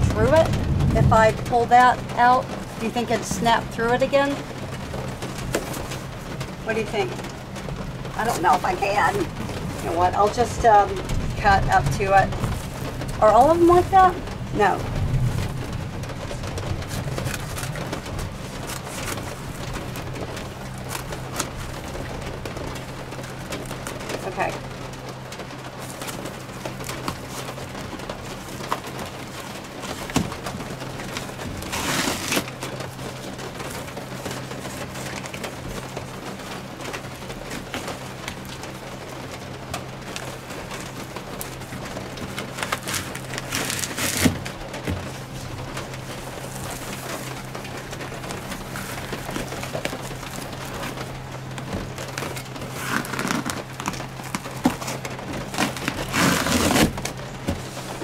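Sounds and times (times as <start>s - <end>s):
foil foam sheet crinkling: 0.0s - 58.0s
steady low hum: 0.0s - 58.0s.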